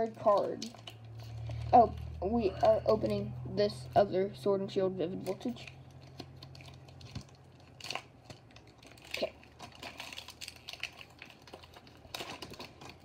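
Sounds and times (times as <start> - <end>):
wrapper crackling and tearing: 0.0 - 3.1, 5.2 - 13.0.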